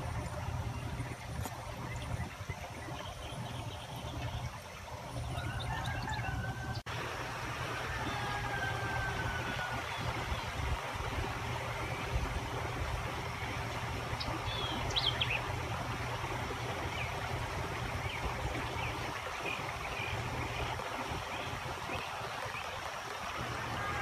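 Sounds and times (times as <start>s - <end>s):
runoff water rushing: 0.0s - 24.0s.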